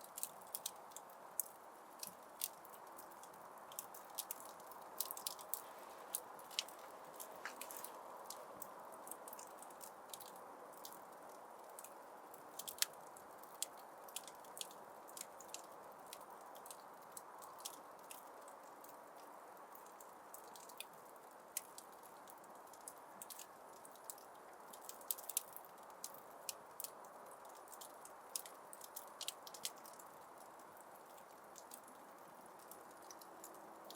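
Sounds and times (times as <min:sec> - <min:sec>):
wood fire crackling: 0:00.1 - 0:19.8, 0:22.6 - 0:33.9.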